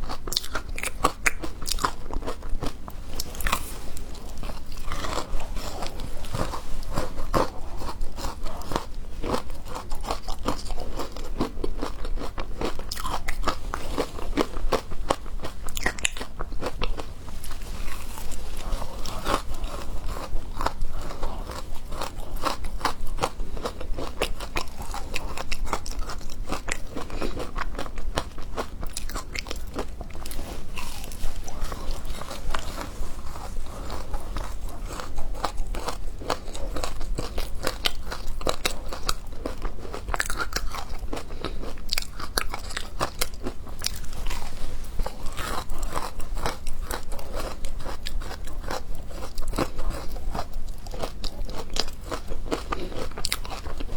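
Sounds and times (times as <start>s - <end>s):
crunching and chewing ice: 0.0s - 53.9s.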